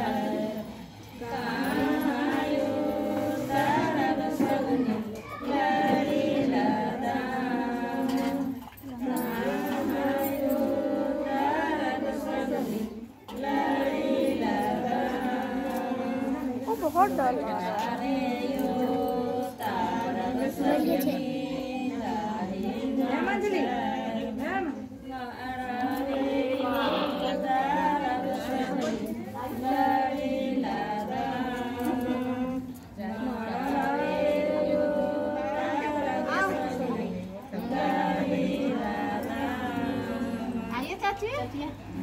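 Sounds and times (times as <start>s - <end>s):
women singing unaccompanied: 0.0s - 42.0s.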